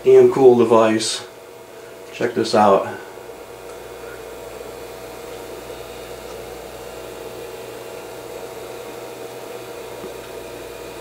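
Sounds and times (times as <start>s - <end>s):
projector motor hum and whir: 0.0s - 11.0s.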